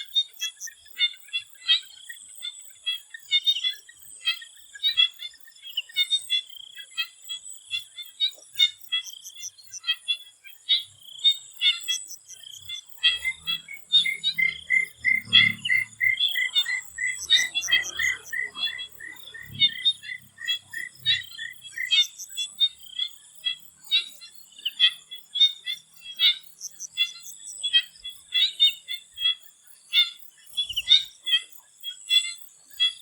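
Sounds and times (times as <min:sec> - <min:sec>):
frogs croaking: 0:00.0 - 0:33.0.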